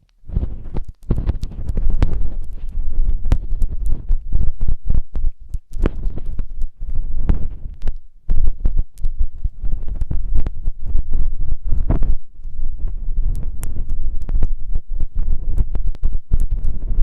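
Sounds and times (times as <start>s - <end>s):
crackles and clicks: 0.0s - 17.0s
microphone rubbing thumps: 0.0s - 17.0s.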